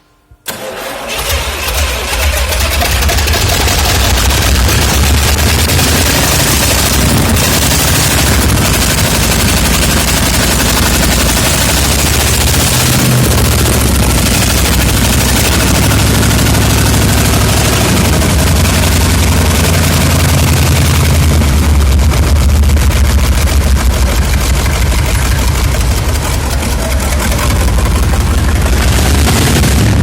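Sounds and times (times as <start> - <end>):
diesel engine running loudly: 0.5 - 30.0.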